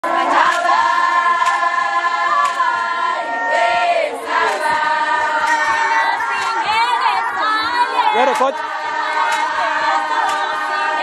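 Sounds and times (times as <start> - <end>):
group singing in chorus: 0.0 - 11.0.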